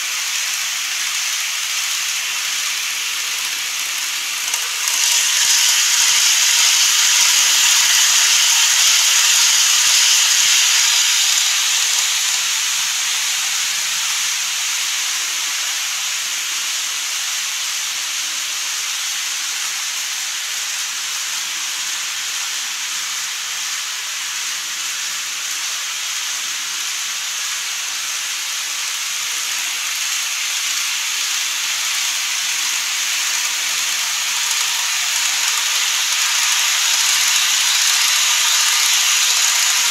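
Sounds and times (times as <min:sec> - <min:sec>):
model train rattling hiss: 0:00.0 - 0:39.9.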